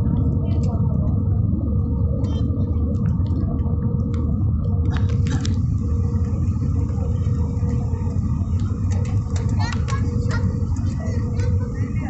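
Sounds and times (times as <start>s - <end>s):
airliner cabin rumble: 0.0s - 12.0s
faint steady hum: 0.0s - 12.0s.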